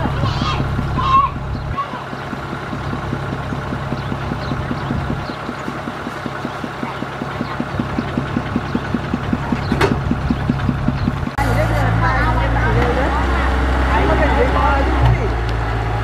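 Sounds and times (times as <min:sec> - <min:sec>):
combine harvester engine running: 0:00.0 - 0:16.0.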